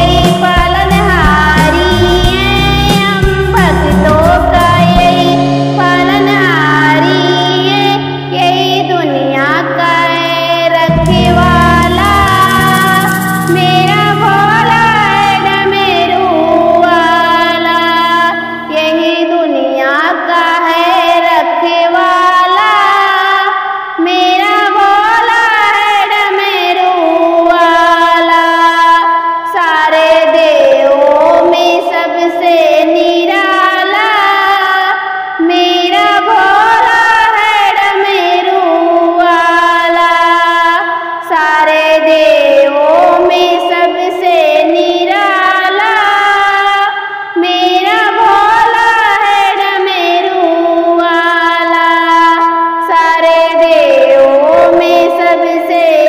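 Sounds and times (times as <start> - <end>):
music: 0.0 - 56.0
woman singing devotional song: 0.0 - 56.0.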